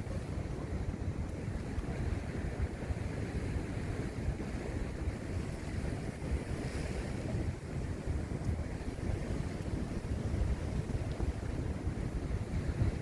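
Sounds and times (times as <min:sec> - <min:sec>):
sea waves rushing on shore: 0:00.0 - 0:13.0
wind buffeting microphone: 0:00.0 - 0:13.0.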